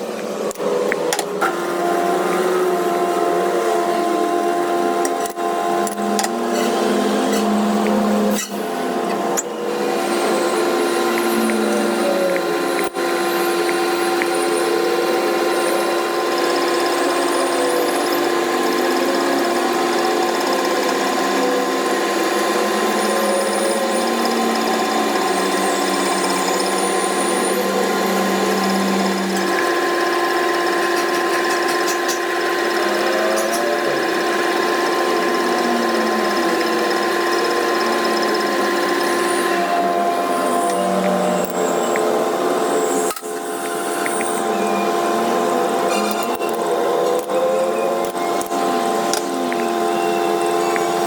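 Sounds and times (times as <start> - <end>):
power tool motor running: 0.0 - 51.0.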